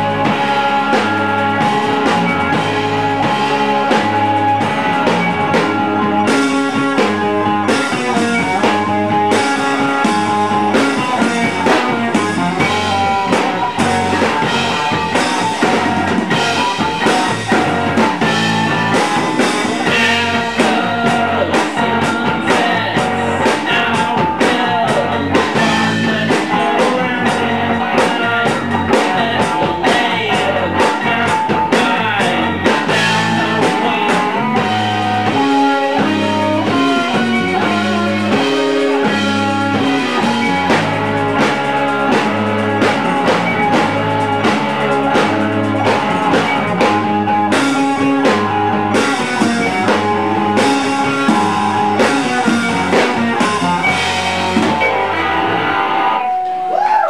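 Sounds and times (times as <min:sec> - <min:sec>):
bass line: 0:00.0 - 0:57.0
drum kit beat: 0:00.0 - 0:57.0
electric guitars: 0:00.0 - 0:57.0.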